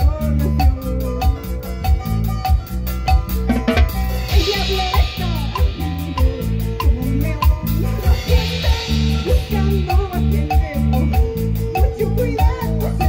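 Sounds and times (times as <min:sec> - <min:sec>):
drum kit beat with cymbals: 0:00.0 - 0:13.0
live band playing praise tune: 0:00.0 - 0:13.0.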